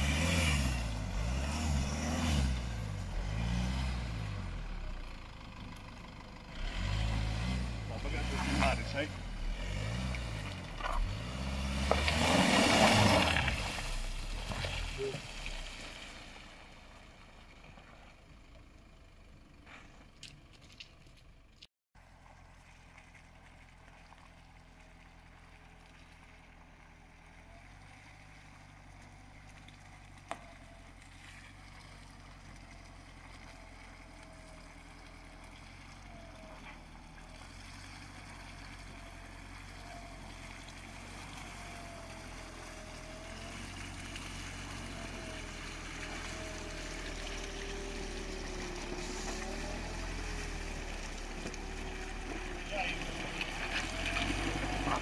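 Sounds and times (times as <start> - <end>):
diesel engine at low revs: 0.0 - 55.0
mud and water sloshing: 8.2 - 18.2, 19.7 - 55.0.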